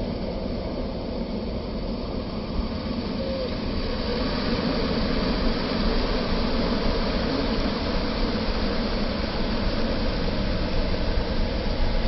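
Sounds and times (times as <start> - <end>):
ocean surf breaking: 2.2 - 12.0.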